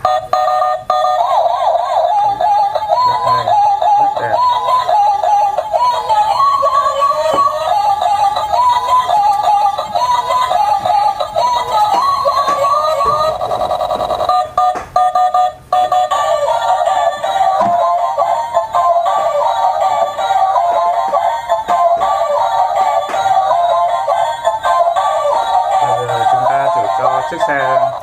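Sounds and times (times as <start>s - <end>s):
tinny electronic toy tune: 0.0s - 28.0s.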